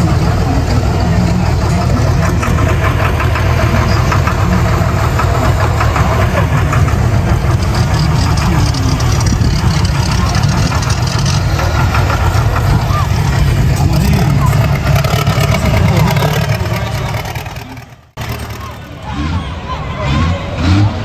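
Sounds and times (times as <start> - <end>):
diesel tractor engine idling: 0.0 - 20.8.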